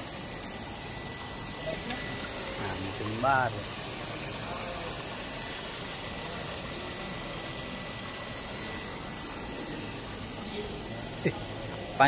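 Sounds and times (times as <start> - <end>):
electric water pump running: 0.0 - 12.0.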